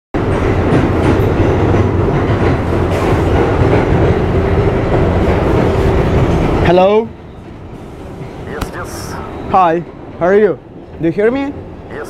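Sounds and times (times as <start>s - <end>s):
subway car rumbling on track: 0.1s - 12.0s.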